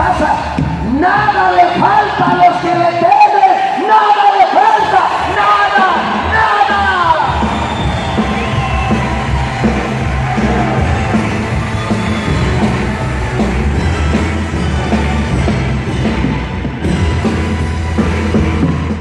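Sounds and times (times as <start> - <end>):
loud band music with heavy bass: 0.0 - 19.0.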